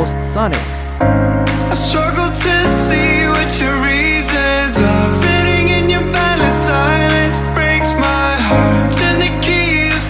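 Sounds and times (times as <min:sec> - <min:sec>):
pop song with sung vocals: 0:00.0 - 0:10.0.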